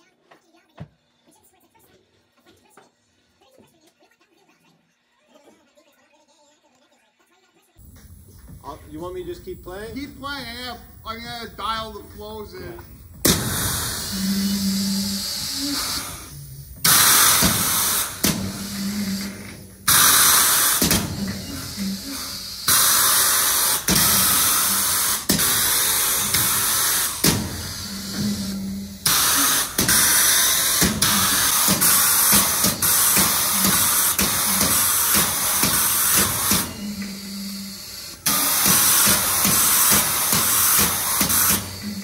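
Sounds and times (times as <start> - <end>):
compressed air hissing: 7.8 - 42.0.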